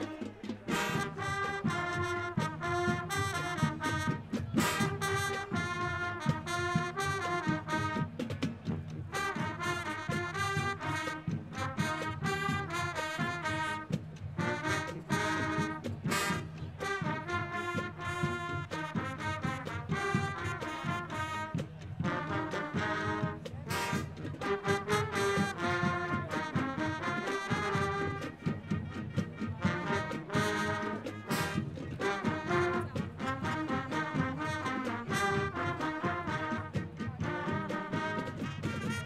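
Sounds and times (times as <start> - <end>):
brass horns playing tune: 0.0 - 39.0
marching band playing: 0.0 - 39.0.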